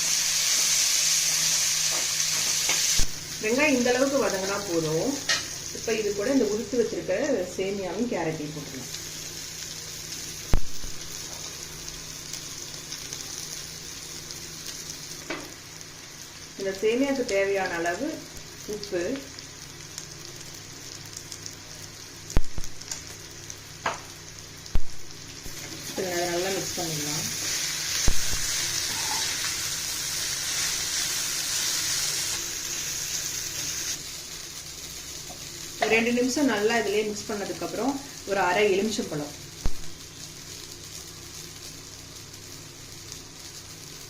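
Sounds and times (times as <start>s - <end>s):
onions sizzling in oil: 0.0s - 44.0s.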